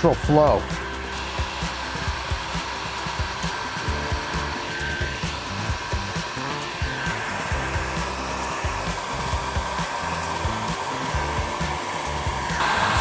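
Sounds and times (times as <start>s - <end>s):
heat gun blowing air with whine: 0.0s - 13.0s.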